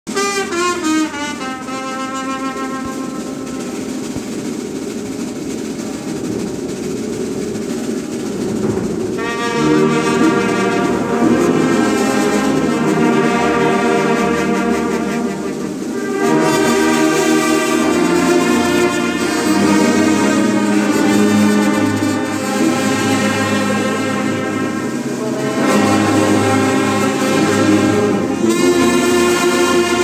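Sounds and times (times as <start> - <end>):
brass band playing sustained chords: 0.0 - 30.0.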